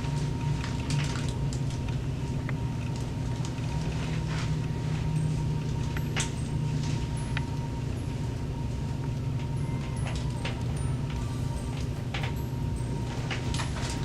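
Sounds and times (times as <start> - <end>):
low mechanical hum: 0.0 - 14.0
thin constant high tone: 0.0 - 14.0.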